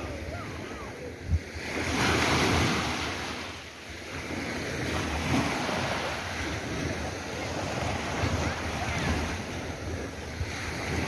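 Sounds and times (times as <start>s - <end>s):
sea waves breaking on shore: 0.0s - 11.0s
wind rumble on microphone: 0.0s - 11.0s.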